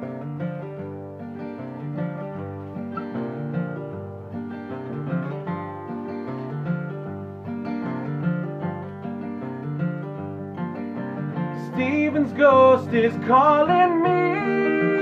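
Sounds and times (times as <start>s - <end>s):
acoustic guitar strummed and picked: 0.0s - 15.0s.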